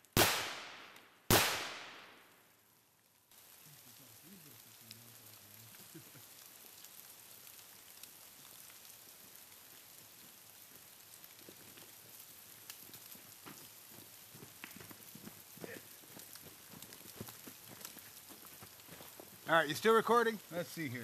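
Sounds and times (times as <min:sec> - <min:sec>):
faint hiss: 0:00.0 - 0:21.0.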